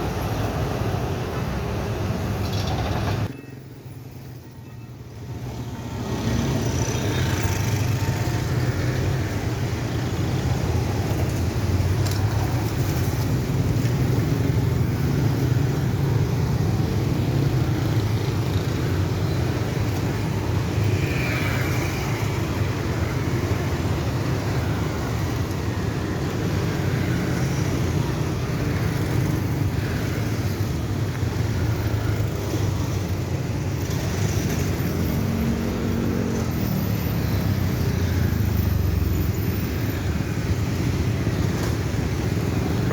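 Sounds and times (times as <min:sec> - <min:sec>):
passing vehicles rumbling: 0:00.0 - 0:42.9.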